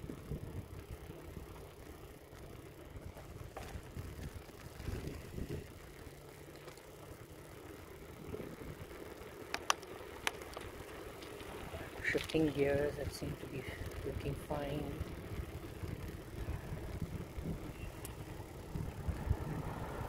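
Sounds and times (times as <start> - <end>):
bicycle gears clicking: 0.0 - 20.0
bicycle riding rumble: 0.0 - 20.0
light rattling: 1.6 - 20.0.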